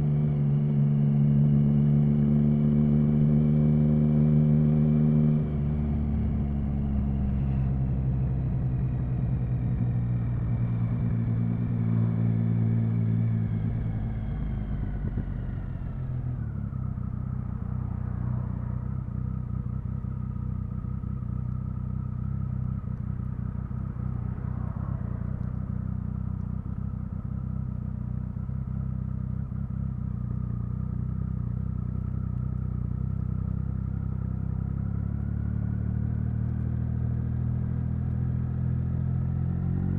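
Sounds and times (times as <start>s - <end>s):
motorcycle engine revs and idle: 0.0s - 39.9s.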